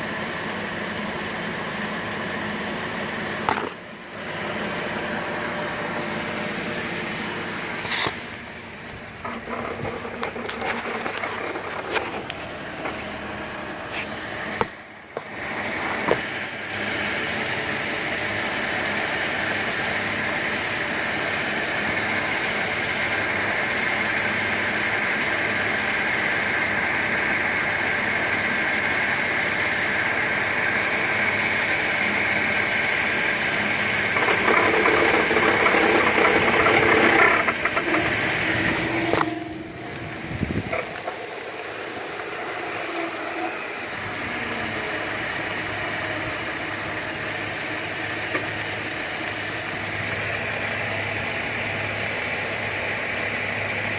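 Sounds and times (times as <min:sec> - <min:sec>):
car engine running: 0:00.0 - 0:53.9
engine rattle: 0:00.0 - 0:53.9
high accessory drive whine: 0:00.0 - 0:53.9.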